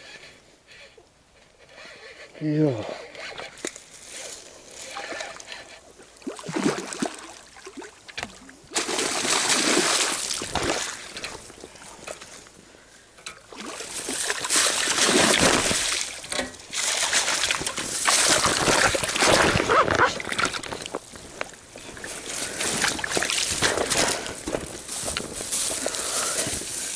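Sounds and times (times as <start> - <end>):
water splashing and sloshing: 3.3 - 12.5, 13.2 - 26.9.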